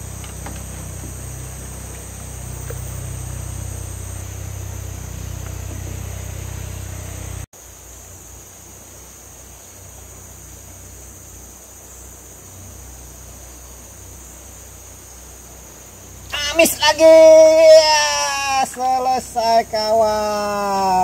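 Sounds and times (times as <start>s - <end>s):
insects buzzing: 0.0s - 21.0s
low steady hum: 0.0s - 21.0s.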